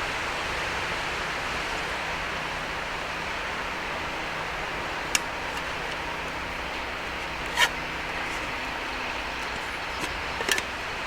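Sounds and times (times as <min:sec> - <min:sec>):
sea surf: 0:00.0 - 0:11.0
wind: 0:00.0 - 0:11.0.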